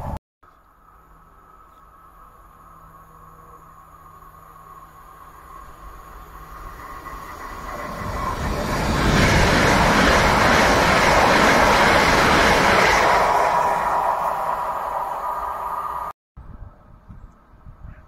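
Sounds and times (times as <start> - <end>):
passenger train passing: 1.4 - 16.2.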